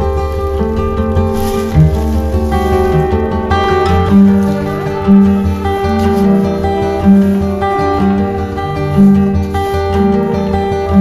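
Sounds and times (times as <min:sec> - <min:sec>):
acoustic guitar music: 0:00.0 - 0:11.0
steady bass: 0:00.0 - 0:11.0.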